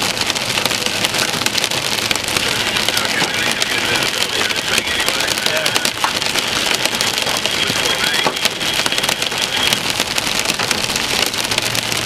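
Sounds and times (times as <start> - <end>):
heavy rain on car windshield: 0.0 - 12.0.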